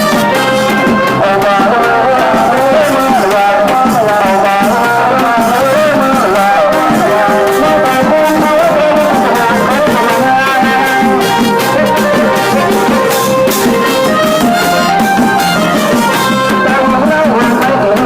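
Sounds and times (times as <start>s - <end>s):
brass band playing: 0.0s - 18.0s
horns playing melody: 0.0s - 18.0s
steady drum beat: 0.0s - 18.0s.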